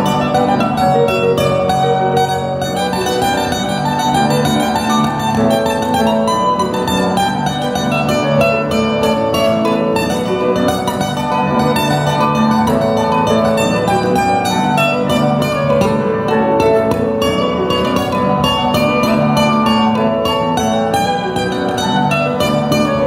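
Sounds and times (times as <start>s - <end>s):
plucked string instruments: 0.0s - 23.0s.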